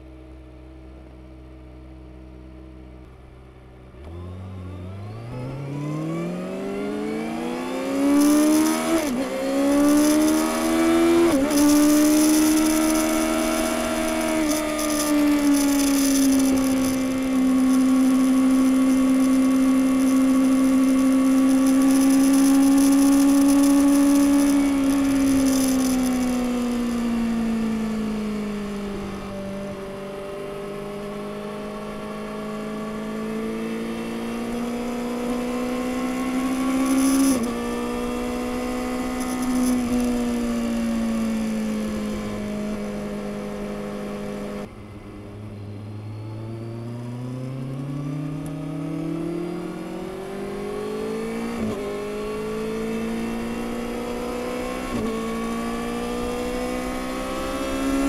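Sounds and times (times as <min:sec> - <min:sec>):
motorcycle engine revving: 0:03.9 - 0:58.0.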